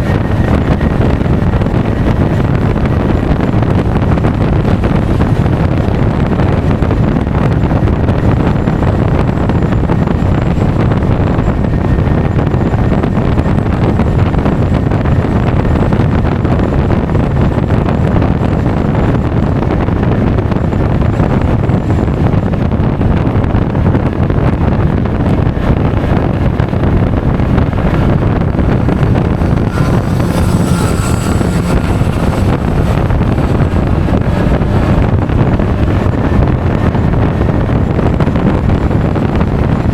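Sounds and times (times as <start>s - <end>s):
scooter road noise: 0.0s - 39.9s
wind buffeting microphone: 0.0s - 39.9s.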